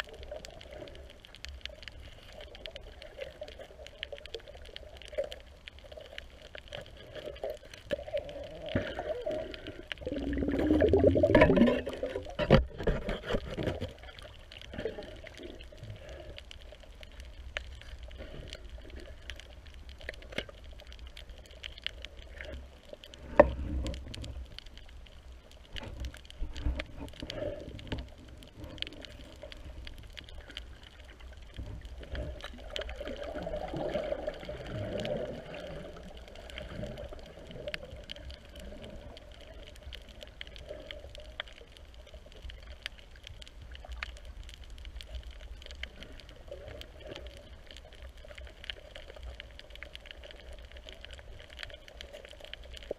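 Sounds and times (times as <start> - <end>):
fine crackle of clicks: 0.0 - 52.9
water rushing underwater: 0.0 - 52.9.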